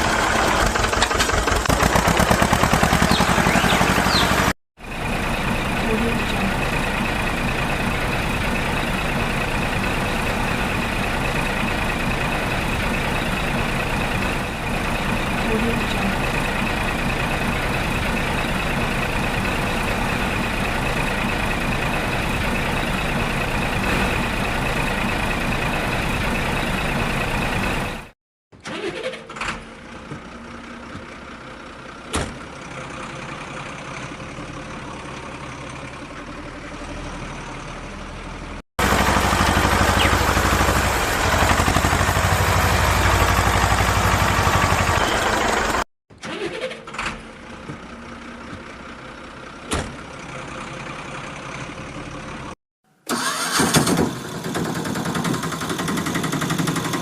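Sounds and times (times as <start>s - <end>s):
loud vehicle engine running: 0.0s - 28.2s, 29.5s - 45.9s, 46.9s - 57.0s.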